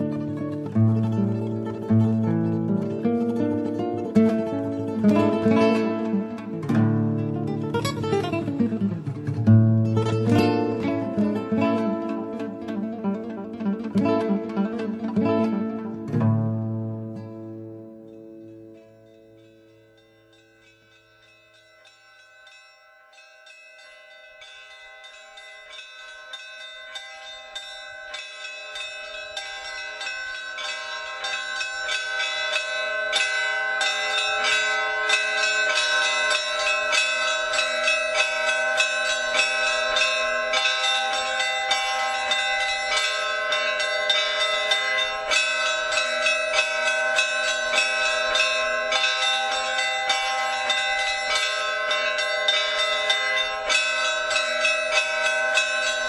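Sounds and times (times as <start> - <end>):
peal of bells ringing: 0.0 - 56.0.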